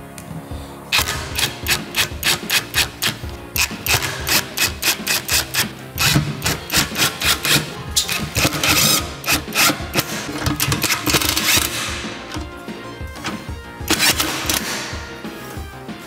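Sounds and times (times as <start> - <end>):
background music with quick beat: 0.0 - 16.0
impact driver driving screws: 0.9 - 12.5, 13.2 - 15.0.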